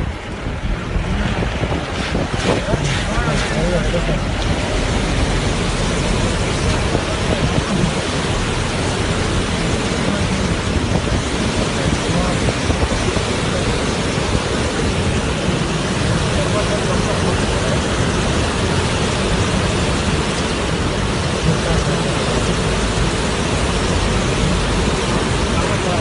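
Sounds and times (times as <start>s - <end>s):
water gushing from spillway: 0.0s - 26.0s.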